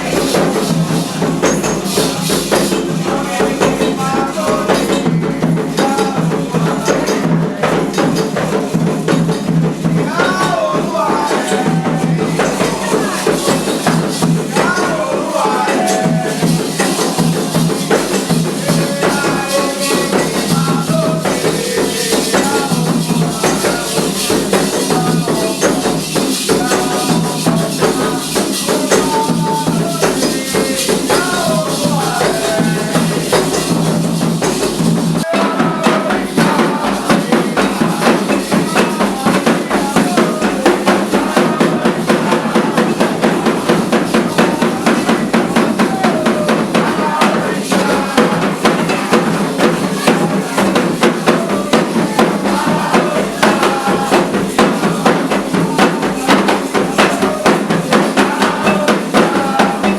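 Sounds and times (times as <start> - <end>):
hand drumming: 0.0 - 59.9
shaken rattles: 0.0 - 59.9
voices singing: 0.0 - 59.9.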